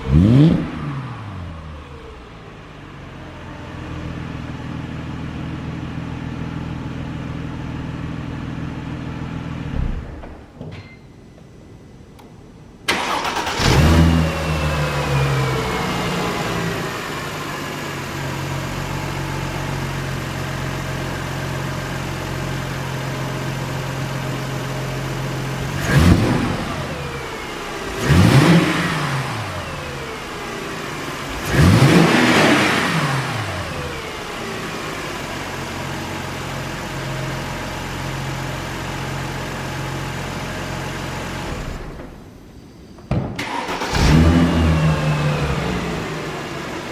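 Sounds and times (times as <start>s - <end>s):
car engine idling and revving: 0.0s - 9.8s, 12.9s - 42.3s, 43.4s - 46.9s.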